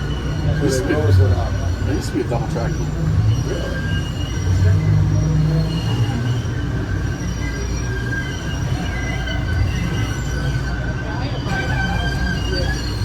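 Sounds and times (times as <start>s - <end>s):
rail car rumbling on rails: 0.0s - 13.0s
train wheels squealing: 0.0s - 13.0s.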